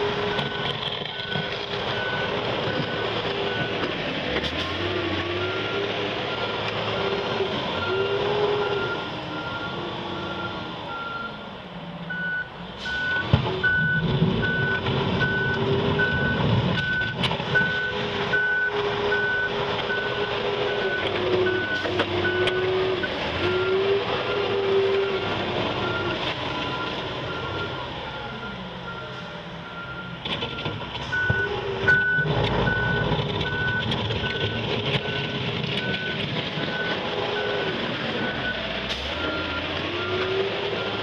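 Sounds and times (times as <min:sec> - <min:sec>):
forklift engine revving: 0:00.0 - 0:11.3, 0:12.1 - 0:41.0.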